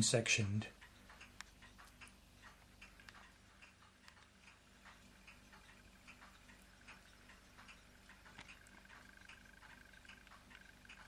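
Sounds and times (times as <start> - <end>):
faint irregular ticks: 0.0 - 11.0
faint steady hum: 0.0 - 11.0.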